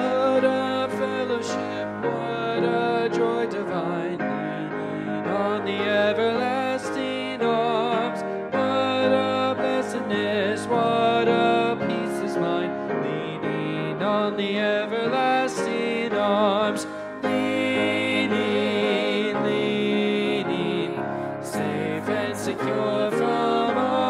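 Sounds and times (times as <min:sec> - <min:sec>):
man singing with vibrato: 0:00.0 - 0:24.0
upright piano: 0:00.0 - 0:24.0.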